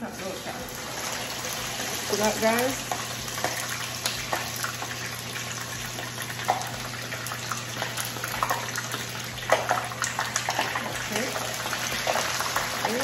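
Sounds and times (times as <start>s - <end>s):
food sizzling in hot oil: 0.0s - 13.0s
oil crackling and popping: 0.7s - 13.0s.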